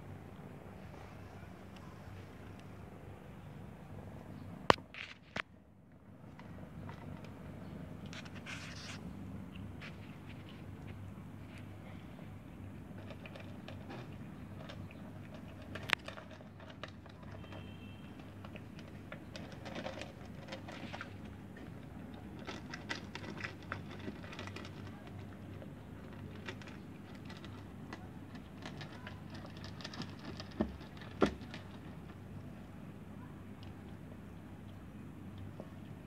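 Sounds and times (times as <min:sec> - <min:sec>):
low steady hum: 0:00.0 - 0:36.0
cat crunching dry kibble: 0:04.7 - 0:36.0.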